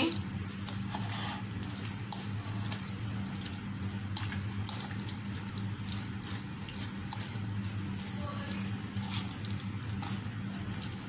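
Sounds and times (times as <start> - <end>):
steady low hum: 0.0 - 11.0
hand squelching raw chicken: 0.1 - 11.0.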